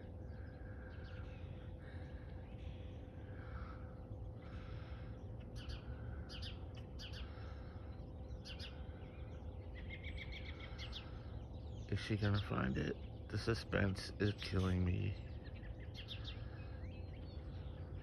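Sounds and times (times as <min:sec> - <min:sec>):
low outdoor background rumble: 0:00.0 - 0:18.0
wild birds chirping: 0:00.0 - 0:18.0.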